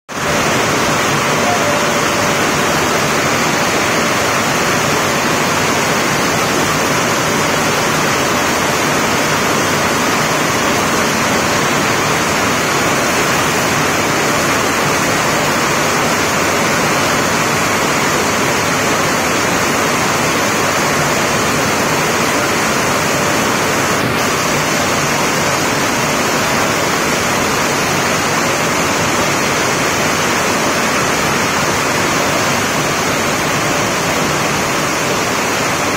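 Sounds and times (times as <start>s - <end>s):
heavy rain on concrete: 0.1s - 35.9s
water streaming off roof: 0.1s - 35.9s.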